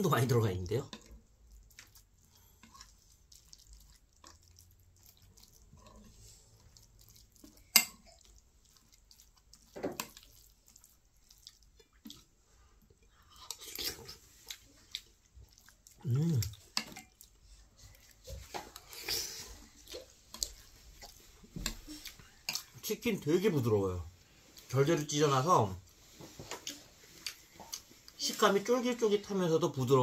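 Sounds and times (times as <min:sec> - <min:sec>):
soft eating sounds: 0:00.0 - 0:30.0.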